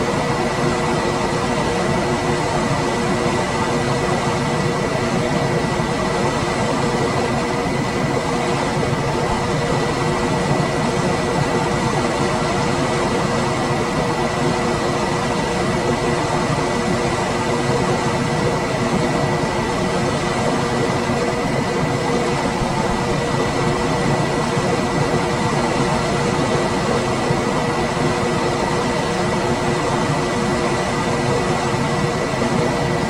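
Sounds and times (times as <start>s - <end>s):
air conditioner running: 0.0s - 33.0s.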